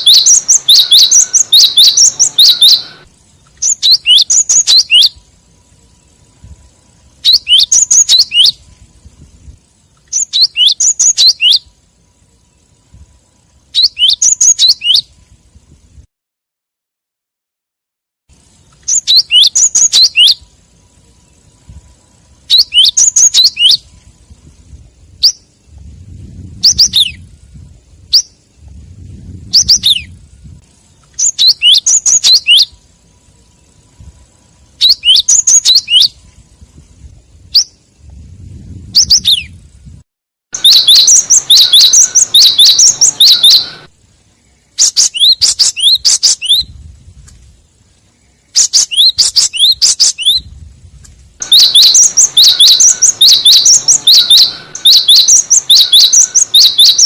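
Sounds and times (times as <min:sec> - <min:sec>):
bird high chirps: 0:00.0 - 0:15.2, 0:18.4 - 0:36.3, 0:37.4 - 0:39.6, 0:40.6 - 0:46.8, 0:48.1 - 0:50.6, 0:51.4 - 0:57.0.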